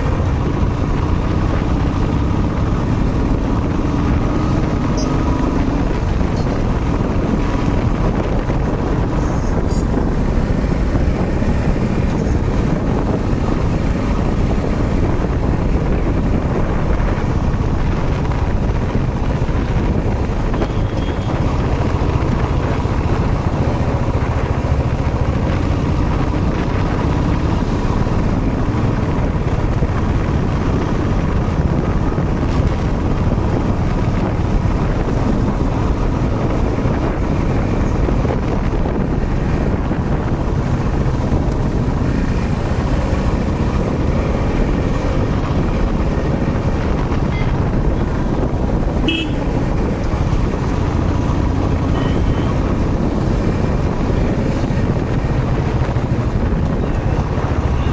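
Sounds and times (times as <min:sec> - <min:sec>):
motorcycle engine: 0:00.0 - 0:57.9
road noise: 0:00.0 - 0:57.9
wind rushing on microphone: 0:00.0 - 0:57.9.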